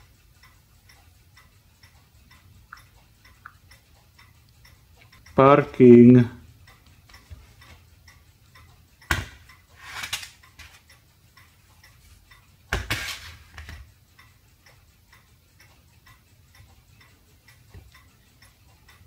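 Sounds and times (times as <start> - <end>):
faint light ticking: 0.0 - 12.7, 13.8 - 19.0.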